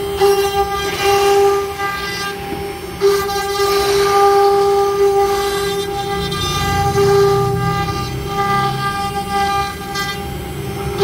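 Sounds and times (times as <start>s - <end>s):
bit cutting wood: 0.0s - 11.0s
router spindle whining: 0.0s - 11.0s.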